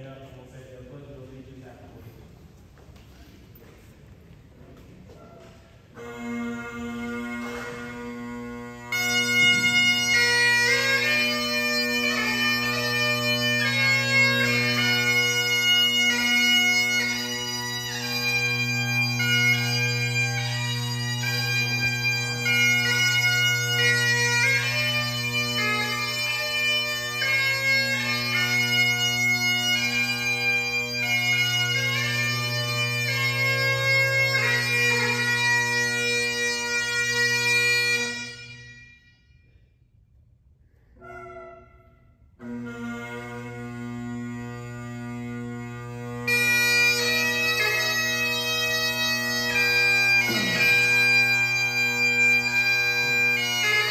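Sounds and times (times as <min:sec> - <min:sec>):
bagpipe drones: 0:05.8 - 0:39.4, 0:40.9 - 0:53.9
bagpipe chanter melody: 0:05.8 - 0:39.7, 0:41.0 - 0:53.9.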